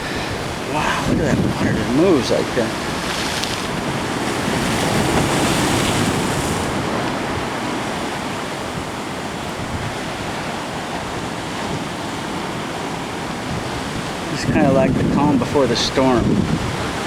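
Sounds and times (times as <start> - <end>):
ocean surf washing on rocks: 0.0 - 17.0.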